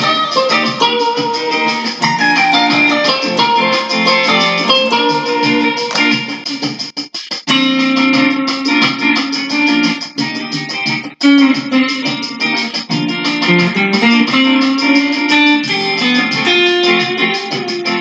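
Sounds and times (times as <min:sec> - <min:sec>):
guitar plucked runs: 0:00.0 - 0:06.8, 0:07.5 - 0:18.0.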